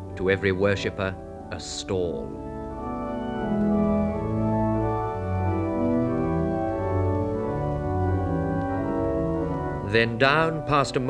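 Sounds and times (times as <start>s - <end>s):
organ playing slow chords: 0.0s - 11.0s.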